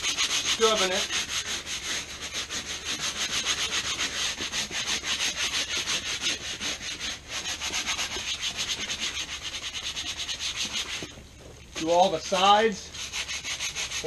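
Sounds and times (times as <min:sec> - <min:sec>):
scrub brush scrubbing wet cushion: 0:00.0 - 0:14.0.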